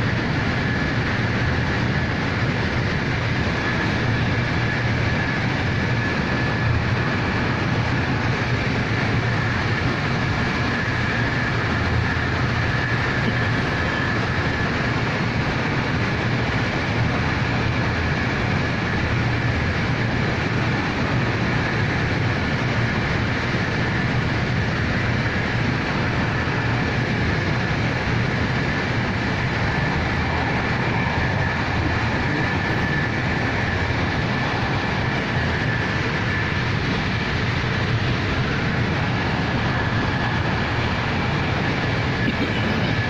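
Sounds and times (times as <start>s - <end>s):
faint high whine: 0.0s - 43.0s
train carriage rumble and rushing: 0.0s - 43.0s.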